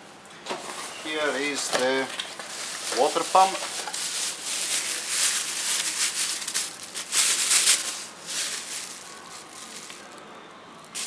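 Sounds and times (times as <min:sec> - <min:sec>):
bubble wrap crinkling: 0:00.7 - 0:11.0.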